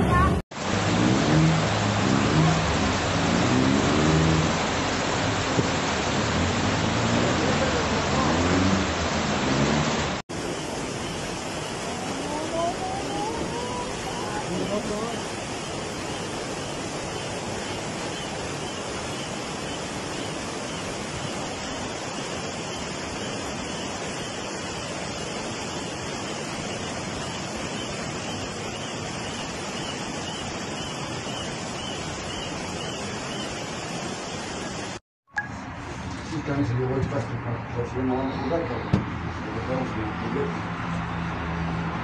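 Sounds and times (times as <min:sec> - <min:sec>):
floodwater rushing: 0:00.0 - 0:36.5.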